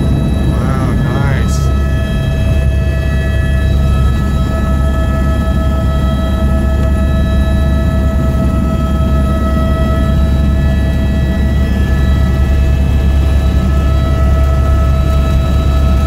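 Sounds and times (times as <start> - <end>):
helicopter rotor and engine drone: 0.0 - 16.0
high-pitched whine: 0.0 - 16.0.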